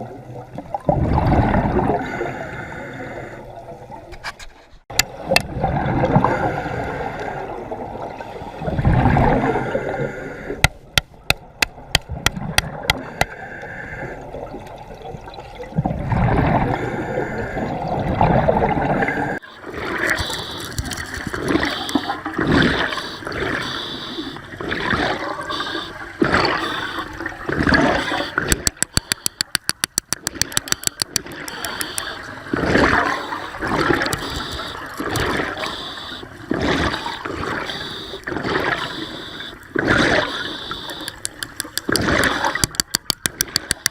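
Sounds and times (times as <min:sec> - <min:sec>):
sea water sloshing and gurgling: 0:00.0 - 0:43.9.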